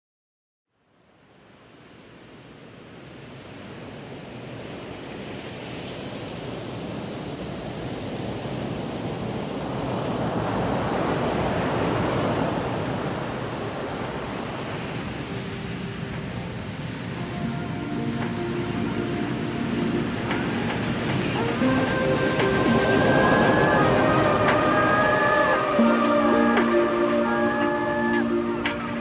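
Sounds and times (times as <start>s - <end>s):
ocean surf washing up beach: 1.4s - 29.0s.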